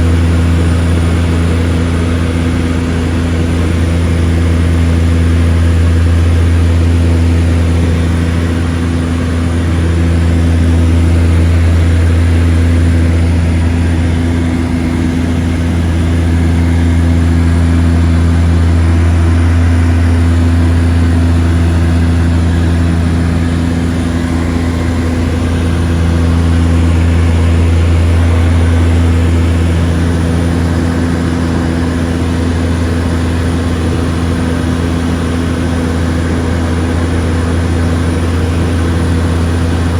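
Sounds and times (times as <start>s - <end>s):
propeller engines droning: 0.0s - 39.9s.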